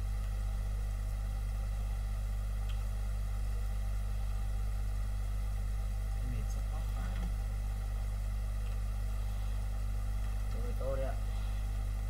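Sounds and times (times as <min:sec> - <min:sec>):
low electrical hum with hiss: 0:00.0 - 0:12.0.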